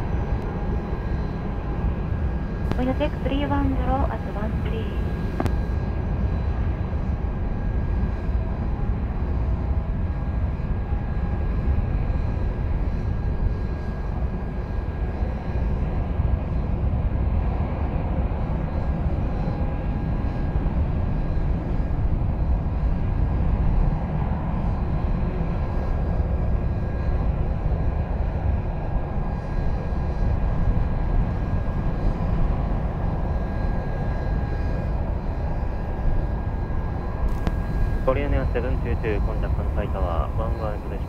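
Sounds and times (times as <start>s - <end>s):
jet engine rumble: 0.0s - 41.0s.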